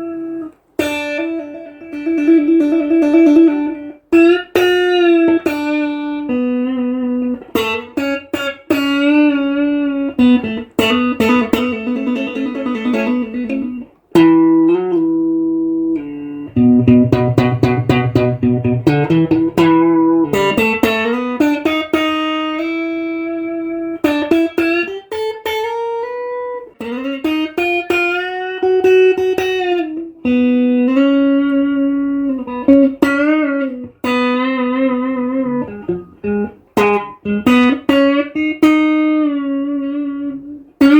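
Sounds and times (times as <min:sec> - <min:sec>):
electric guitar lead melody: 0:00.0 - 0:40.9.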